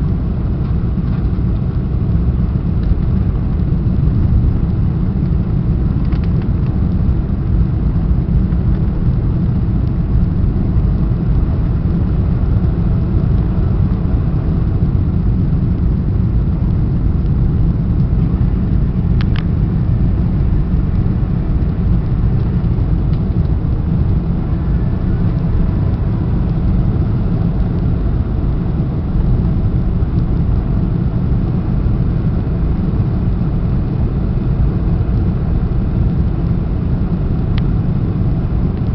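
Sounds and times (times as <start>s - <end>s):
aircraft engine and airflow rumble: 0.0s - 38.9s.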